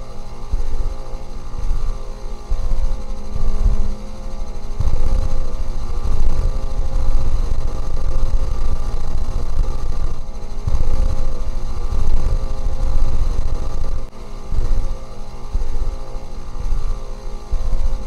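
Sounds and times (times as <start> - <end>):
deep rumbling drone: 0.0 - 18.0
steady higher tones: 0.0 - 18.0.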